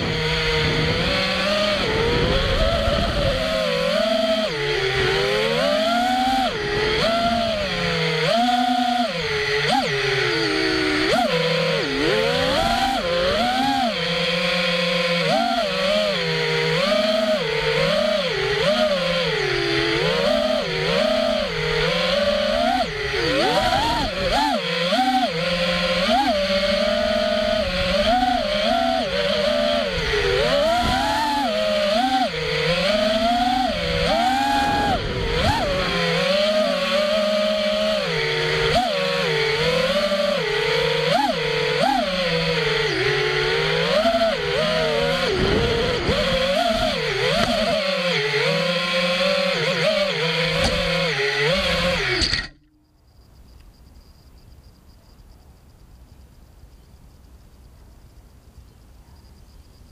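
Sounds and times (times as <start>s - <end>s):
quadcopter motors buzzing: 0.0s - 59.9s.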